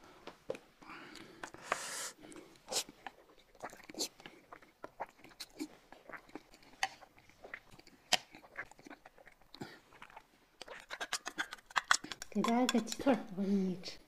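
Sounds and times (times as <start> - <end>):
people chewing noodles: 0.8 - 12.4.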